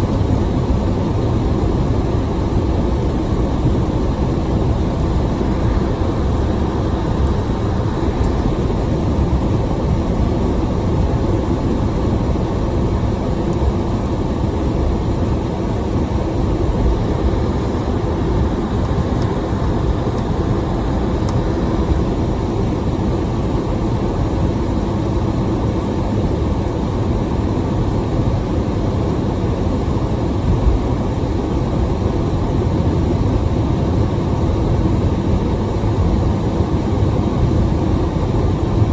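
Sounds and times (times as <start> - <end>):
heavy rain on a car: 0.0 - 38.9.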